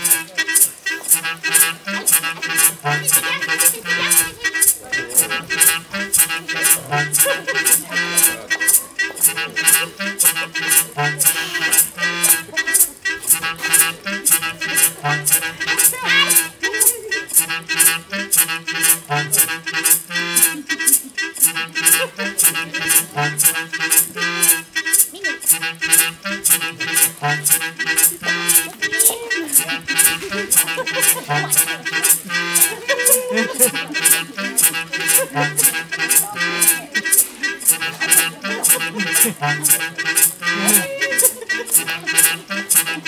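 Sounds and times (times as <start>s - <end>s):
music with percussive beat: 0.0s - 43.0s.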